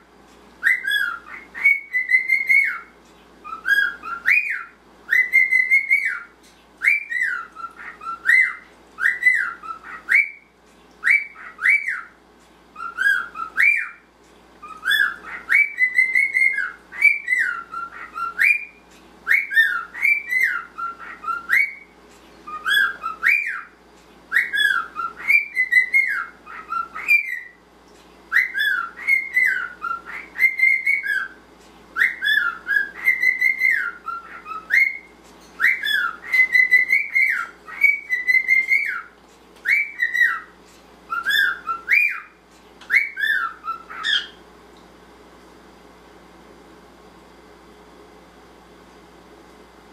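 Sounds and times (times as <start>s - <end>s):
cockatiel whistling: 0.6s - 12.2s, 12.8s - 14.0s, 14.6s - 27.6s, 28.3s - 31.4s, 32.0s - 40.5s, 41.1s - 44.4s.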